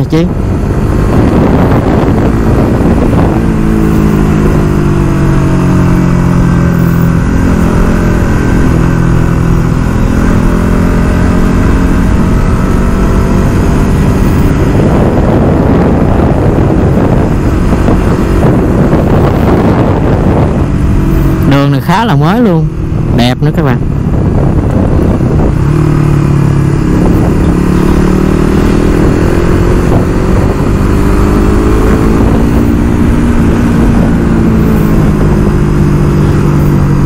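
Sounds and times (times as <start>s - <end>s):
motorcycle engine running: 0.0s - 37.0s
steady low rumble: 0.0s - 37.0s.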